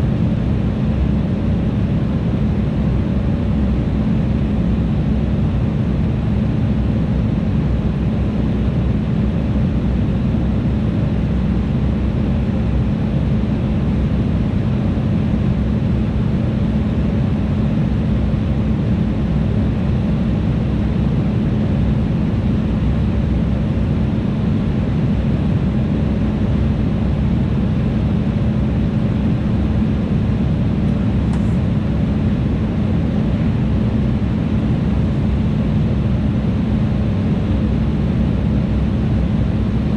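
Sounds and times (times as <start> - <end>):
constant low hum: 0.0 - 39.9
jet engine and airflow noise: 0.0 - 39.9.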